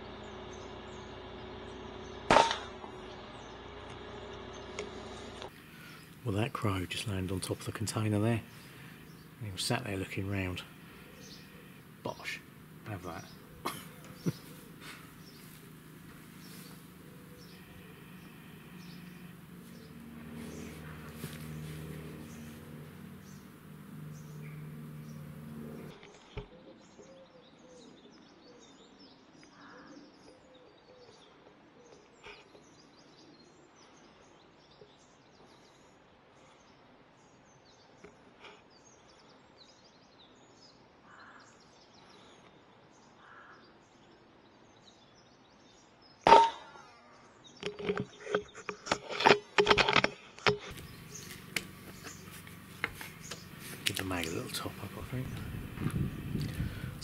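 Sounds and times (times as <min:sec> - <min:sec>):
faint birdsong: 0:00.0 - 0:57.0.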